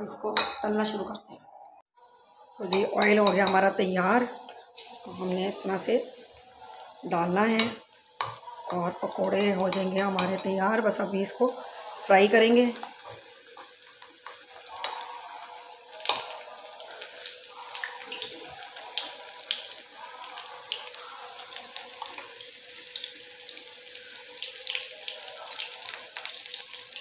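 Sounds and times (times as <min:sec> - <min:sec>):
food deep-frying in oil: 0:02.0 - 0:27.0.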